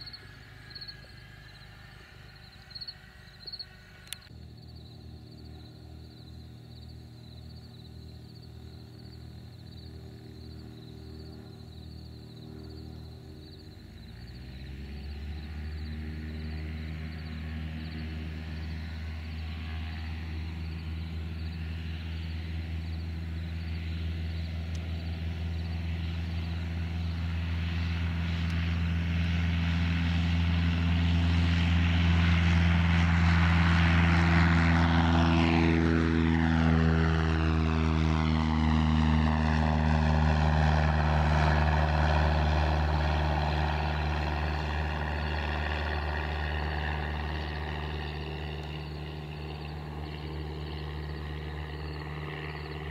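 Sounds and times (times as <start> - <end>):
propeller plane engine: 0.0 - 52.9.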